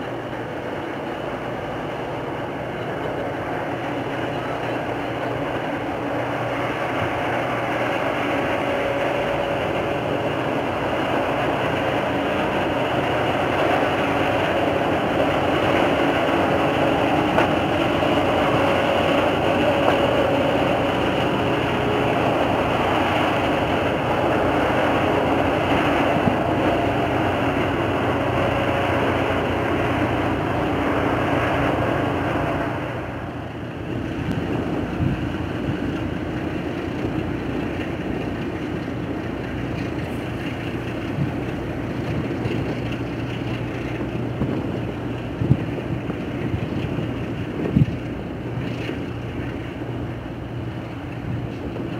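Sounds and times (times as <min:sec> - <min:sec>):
boat diesel engines droning: 0:00.0 - 0:51.9.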